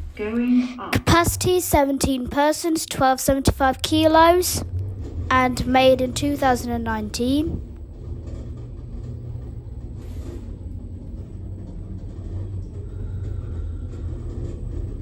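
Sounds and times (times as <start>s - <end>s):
lift car low rumble: 0.0s - 15.0s.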